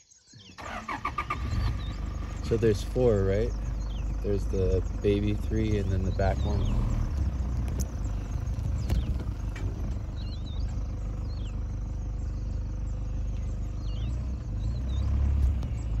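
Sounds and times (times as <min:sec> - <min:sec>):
vehicle engine idling: 0:00.6 - 0:16.0.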